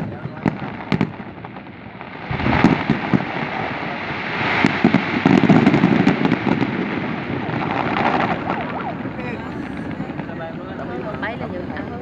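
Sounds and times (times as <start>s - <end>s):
continuous rumble: 0.0s - 12.0s
firework bangs and crackling: 0.0s - 12.0s.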